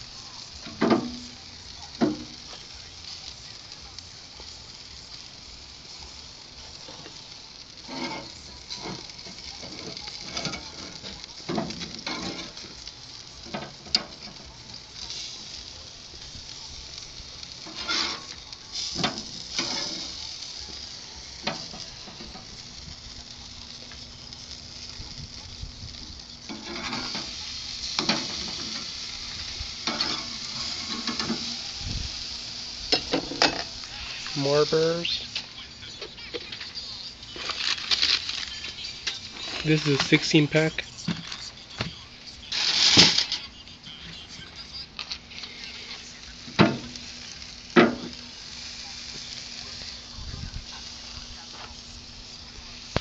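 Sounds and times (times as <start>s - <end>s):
grill crackles and knocks: 0.0s - 53.0s
patties sizzling on a grill: 0.0s - 53.0s.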